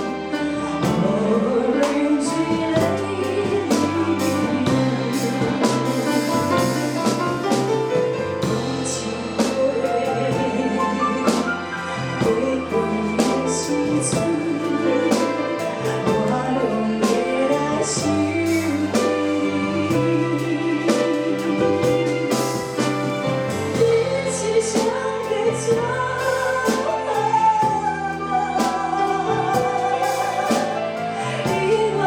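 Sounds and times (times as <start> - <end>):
song with drums bass and keyboard: 0.0 - 32.0.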